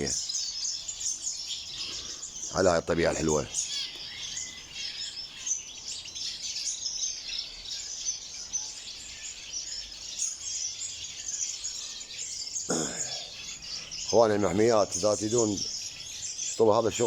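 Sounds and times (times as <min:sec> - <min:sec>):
aviary birds chirping: 0:00.0 - 0:17.0.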